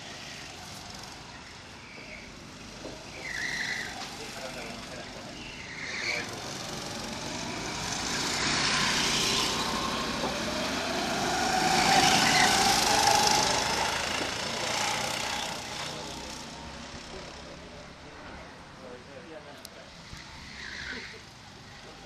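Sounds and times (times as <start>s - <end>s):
go-kart engine passing: 0.0s - 19.2s, 19.8s - 22.0s.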